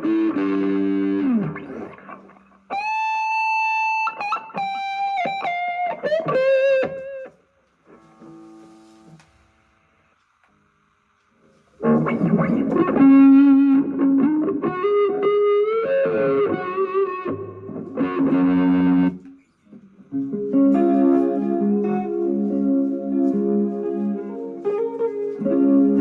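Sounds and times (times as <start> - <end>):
electric guitar playing: 0.0 - 10.1, 11.8 - 26.0.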